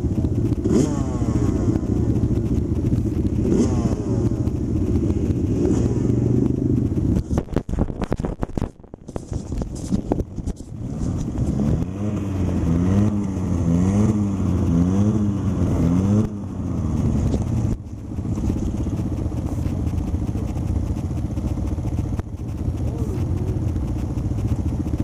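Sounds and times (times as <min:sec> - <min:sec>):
engine revving: 0:00.0 - 0:25.0
quad bike engines idling: 0:00.0 - 0:25.0.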